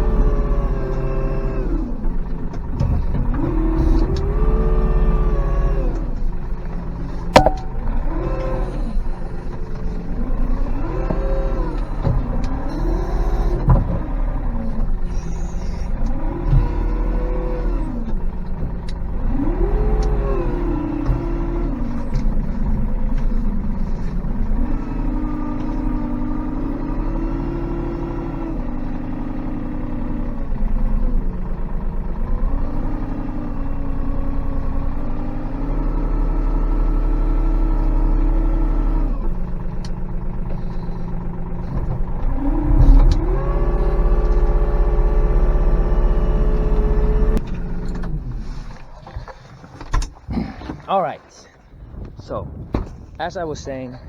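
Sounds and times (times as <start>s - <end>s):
tractor engine revving: 0.0s - 49.3s.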